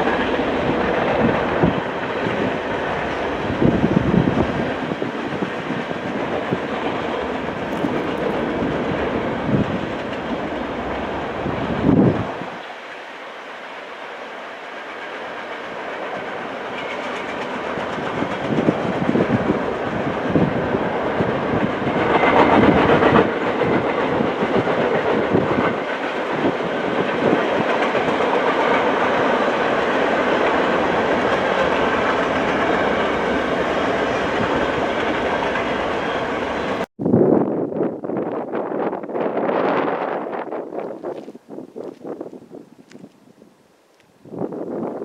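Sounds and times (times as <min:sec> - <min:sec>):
train rolling past: 0:00.0 - 0:36.9.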